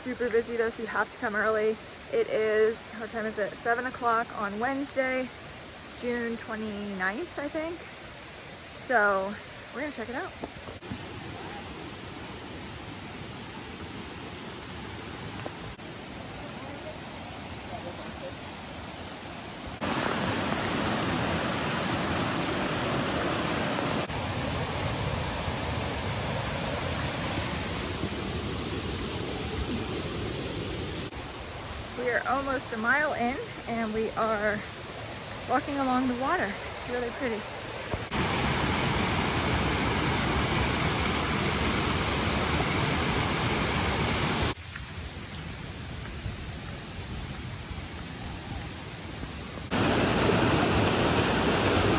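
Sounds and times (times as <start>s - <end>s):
stream rushing over rocks: 7.1s - 51.9s.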